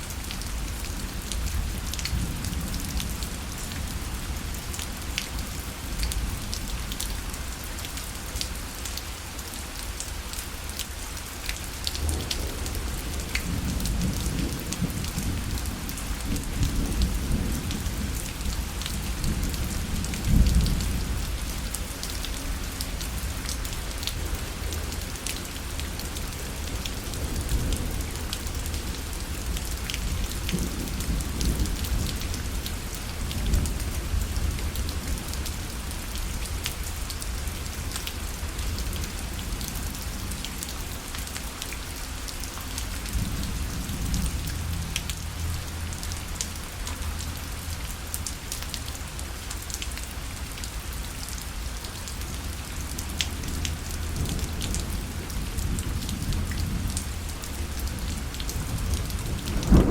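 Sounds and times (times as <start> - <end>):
rain on a fabric parasol: 0.0 - 59.9.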